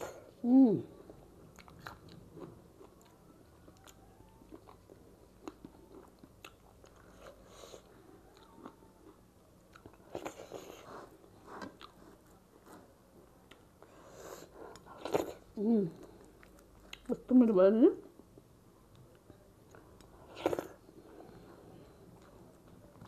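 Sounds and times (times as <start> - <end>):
person chewing: 1.0 - 17.1, 18.9 - 21.5.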